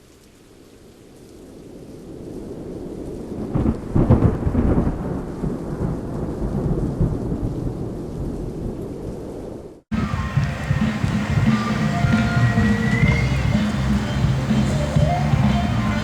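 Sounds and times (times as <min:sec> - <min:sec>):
steady rain: 0:00.0 - 0:16.0
thunder rumbling: 0:01.3 - 0:16.0.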